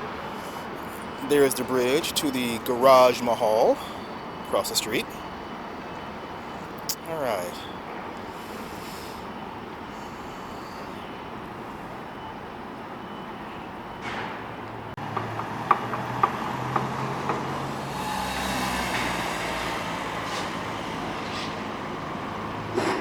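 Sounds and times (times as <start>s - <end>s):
heavy vehicle engine: 0.0s - 23.0s
street traffic noise: 0.0s - 23.0s.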